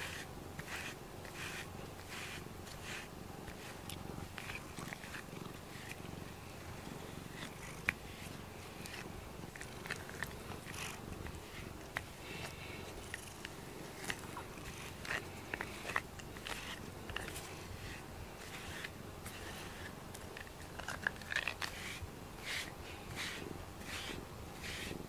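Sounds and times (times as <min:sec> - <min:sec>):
brush scratching fur: 0:00.0 - 0:25.0
cat purring: 0:00.0 - 0:25.0.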